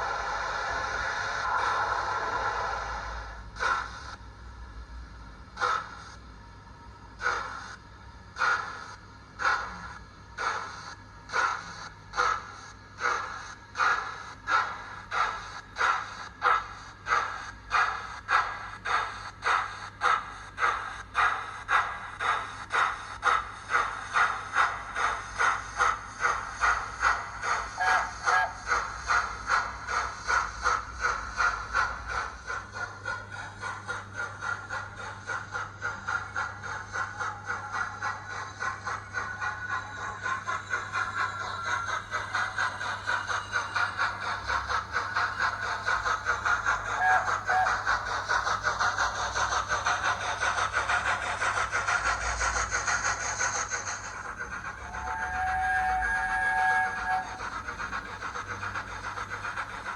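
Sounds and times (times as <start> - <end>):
steam locomotive chuffs through speaker: 0.0 - 4.6, 5.2 - 59.9.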